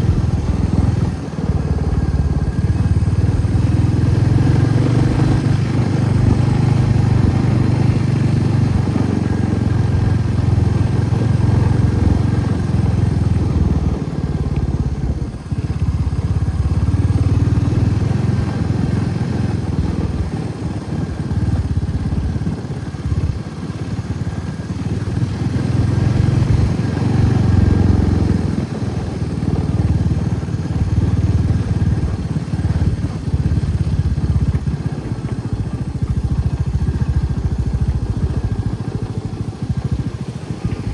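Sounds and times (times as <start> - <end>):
motorcycle engine rumble: 0.0 - 40.9.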